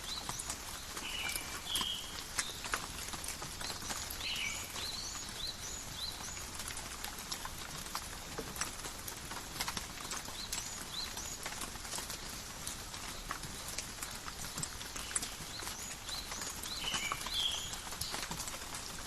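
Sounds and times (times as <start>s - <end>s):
rain pattering on leaves: 0.0s - 19.0s.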